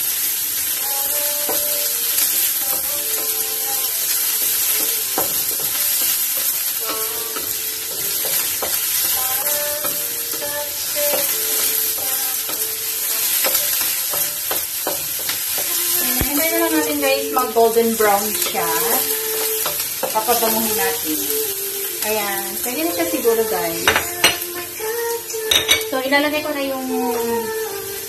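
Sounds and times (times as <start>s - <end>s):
garlic and onion sizzling in oil: 0.0s - 28.0s.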